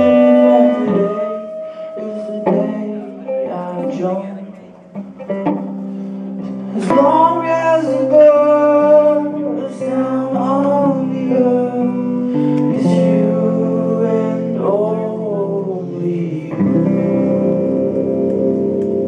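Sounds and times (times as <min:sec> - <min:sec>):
person singing: 0:00.0 - 0:18.0
live rock band playing: 0:00.0 - 0:19.0.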